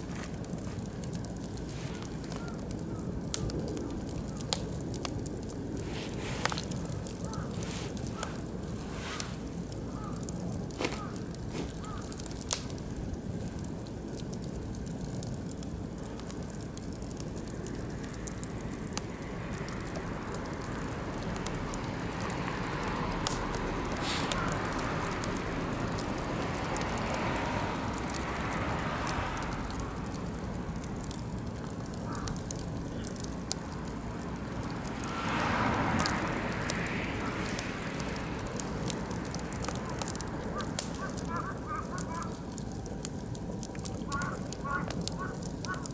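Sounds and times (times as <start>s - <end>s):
firewood crackling and popping: 0.0s - 45.9s.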